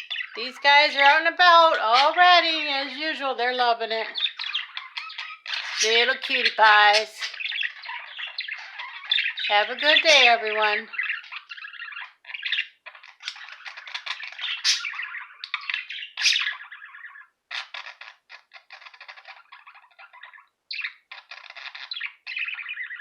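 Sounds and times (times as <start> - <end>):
pet birds chattering and chirping: 0.0 - 23.0.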